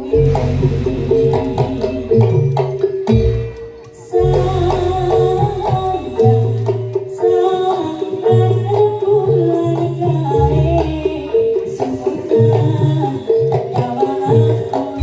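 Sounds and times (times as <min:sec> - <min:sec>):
hand drumming: 0:00.0 - 0:15.0
metallic gamelan melody: 0:00.0 - 0:15.0.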